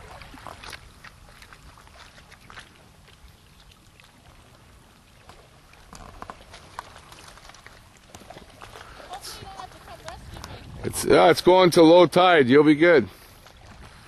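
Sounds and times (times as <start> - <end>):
water lapping among stones: 0.0 - 11.4, 12.8 - 14.0.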